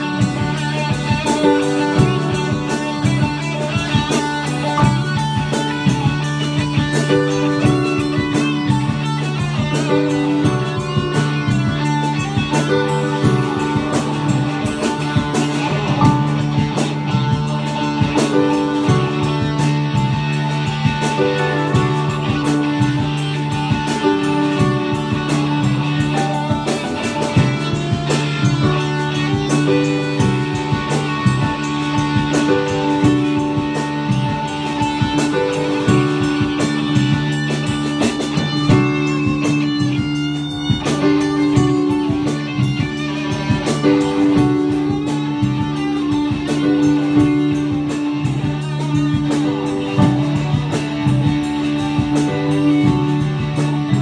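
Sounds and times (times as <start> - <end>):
drums: 0.0 - 54.0
electric guitar: 0.0 - 54.0
keyboard: 0.0 - 54.0.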